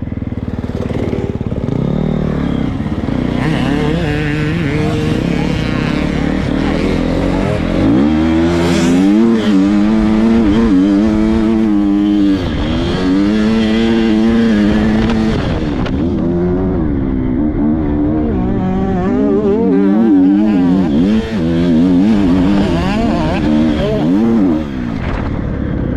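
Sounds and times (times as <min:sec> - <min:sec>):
motocross bike engine revving: 0:00.0 - 0:25.9.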